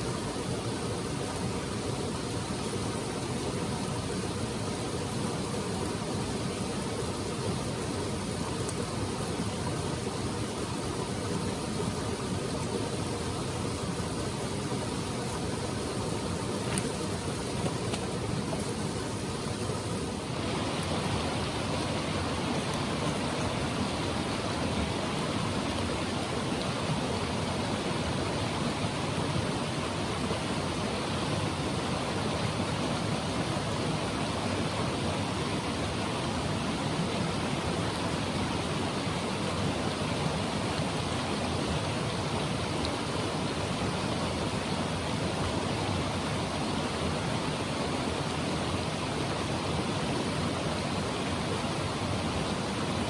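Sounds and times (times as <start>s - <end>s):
stream rushing: 0.0s - 53.0s.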